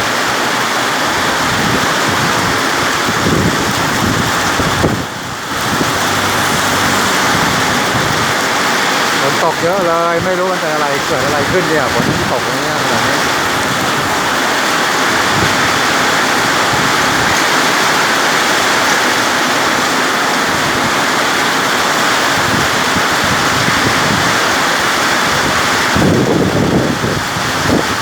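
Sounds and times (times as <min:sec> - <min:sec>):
heavy rain pouring: 0:00.0 - 0:28.0
wind buffeting microphone: 0:01.0 - 0:28.0.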